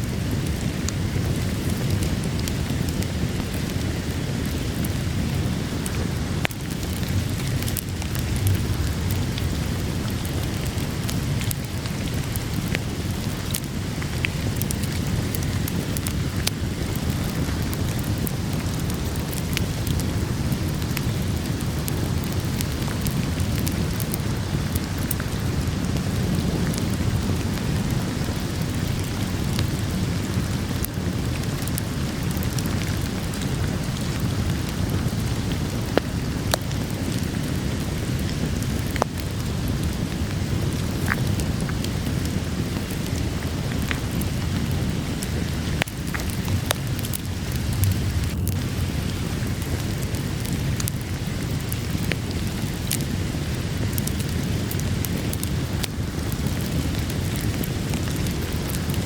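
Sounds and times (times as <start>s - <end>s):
steady rain falling: 0.0s - 59.0s
wood fire crackling and popping: 0.0s - 59.0s.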